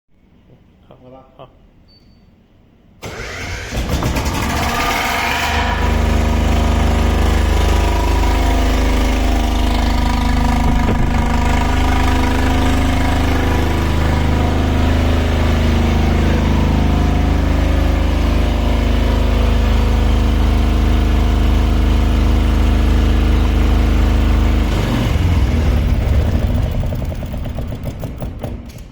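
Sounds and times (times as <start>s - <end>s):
diesel generator running: 3.0s - 28.9s.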